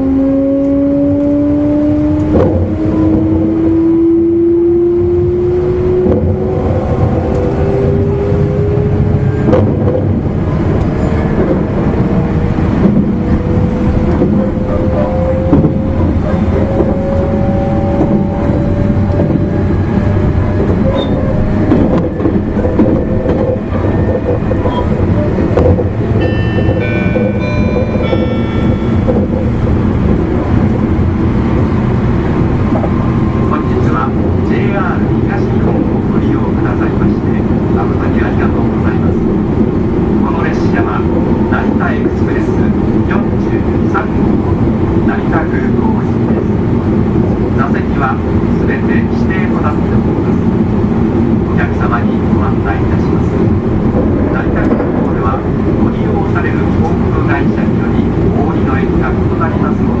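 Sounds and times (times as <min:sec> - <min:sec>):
wheels rumbling on rail: 0:00.0 - 1:00.0.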